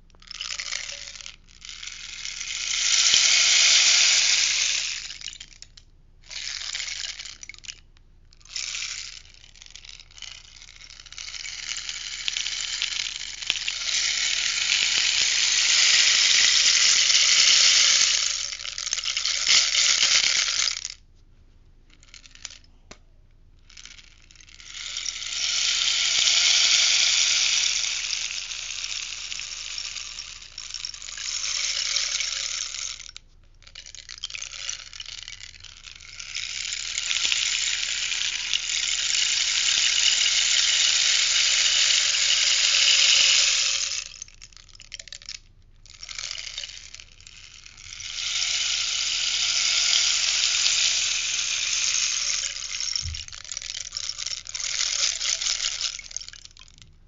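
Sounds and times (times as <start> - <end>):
rainstick beads trickling: 0.0 - 21.0, 21.9 - 22.9, 23.6 - 56.9.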